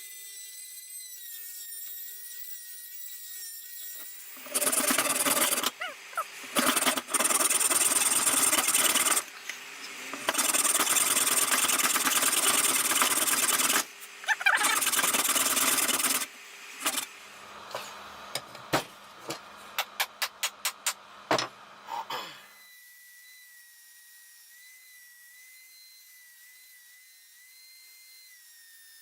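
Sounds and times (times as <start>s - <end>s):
power tool cutting wood: 0.0s - 20.0s, 22.1s - 29.0s.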